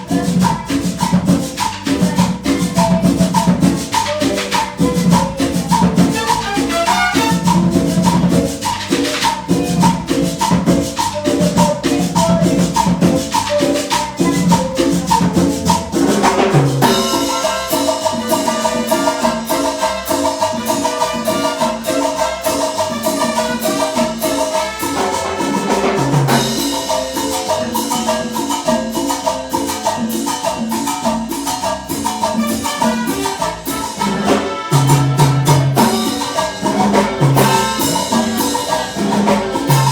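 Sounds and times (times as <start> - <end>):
salsa band playing: 0.0 - 39.9.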